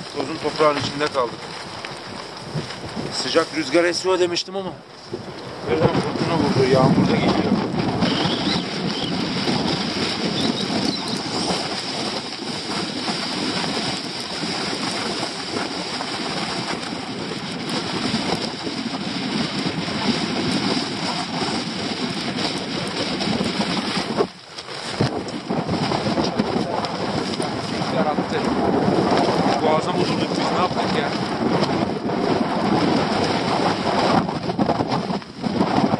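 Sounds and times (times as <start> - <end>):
gusty wind buffeting microphone: 0.0 - 35.9
tent fabric flapping: 5.1 - 35.9.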